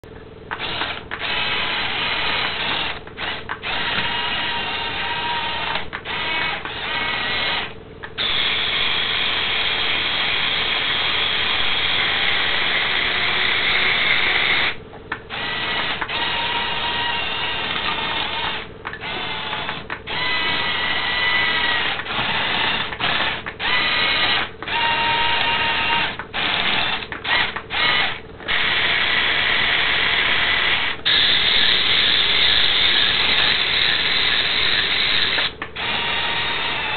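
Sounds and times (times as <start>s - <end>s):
small electric motors whining: 0.5s - 36.9s.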